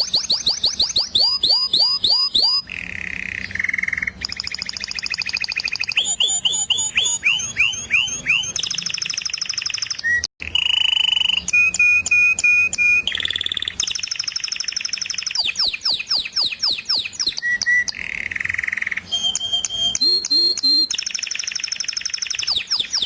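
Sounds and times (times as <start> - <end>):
songbird singing: 0.0 - 23.0.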